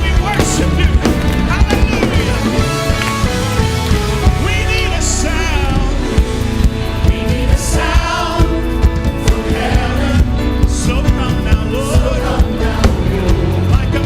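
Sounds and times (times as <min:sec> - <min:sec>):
bass guitar: 0:00.0 - 0:14.0
choir singing gospel song: 0:00.0 - 0:14.0
drums: 0:00.0 - 0:14.0.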